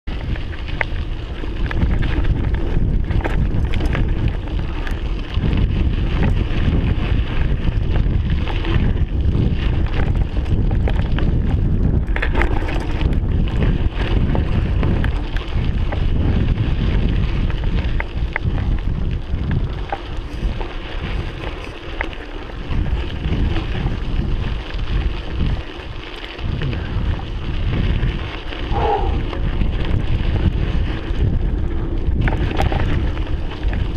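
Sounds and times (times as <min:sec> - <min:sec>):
bike rattling and clicking: 0:00.0 - 0:33.9
tyres on dirt trail: 0:00.0 - 0:33.9
wind buffeting microphone: 0:00.0 - 0:33.9.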